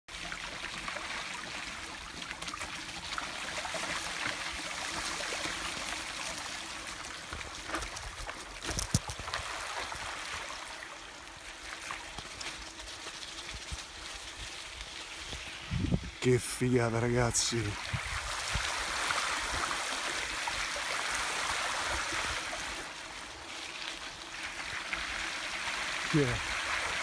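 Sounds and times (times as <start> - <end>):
stream rushing over stones: 0.2 - 27.0.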